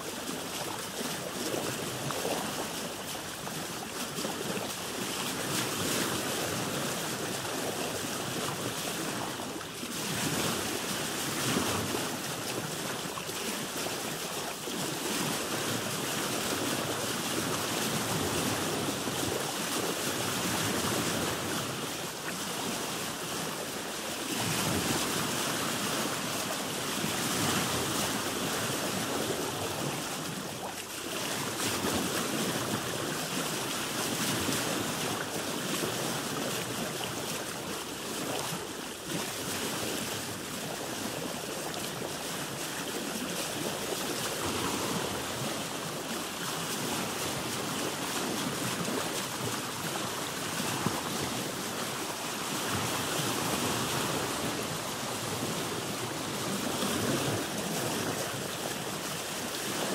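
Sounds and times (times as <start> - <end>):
water lapping against boat hull: 0.0 - 59.9.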